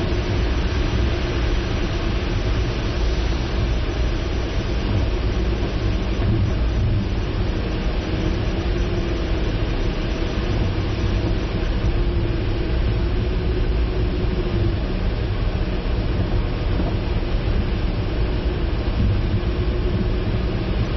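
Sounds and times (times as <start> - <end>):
car driving rumble and hiss: 0.0 - 20.9
faint engine tone: 0.0 - 20.9.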